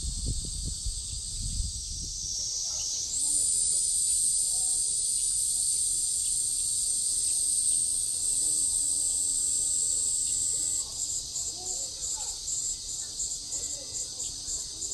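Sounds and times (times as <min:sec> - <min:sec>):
cicadas droning: 0:00.0 - 0:14.9.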